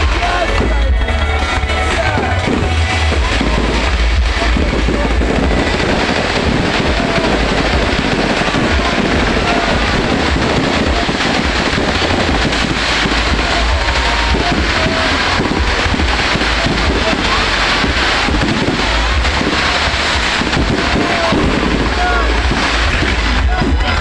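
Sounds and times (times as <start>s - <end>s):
faint crowd chatter: 0.0s - 24.0s
wind buffeting the microphone: 2.1s - 24.0s.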